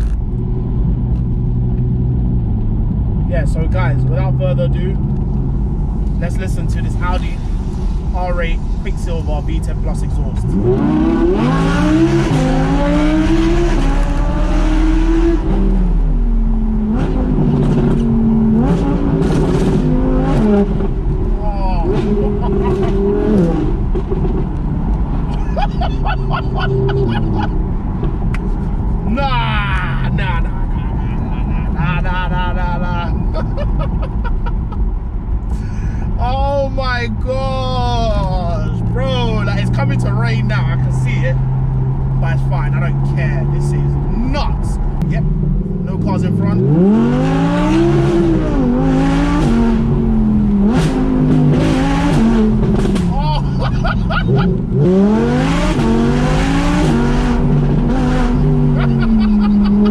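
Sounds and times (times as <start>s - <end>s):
car engine while driving: 0.0s - 59.9s.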